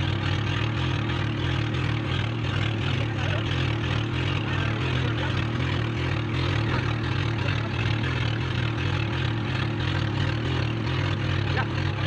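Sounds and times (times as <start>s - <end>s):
boat engine running steadily: 0.0s - 12.0s
wind: 0.0s - 12.0s.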